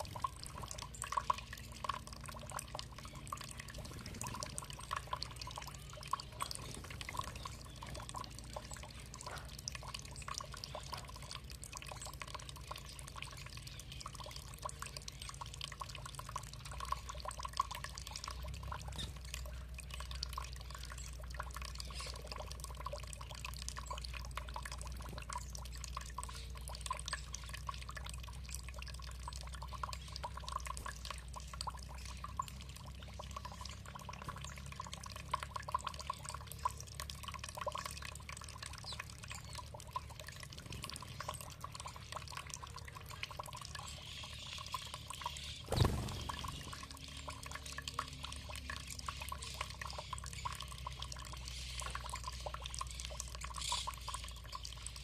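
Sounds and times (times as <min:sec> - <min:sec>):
water trickling and dripping: 0:00.0 - 0:55.0.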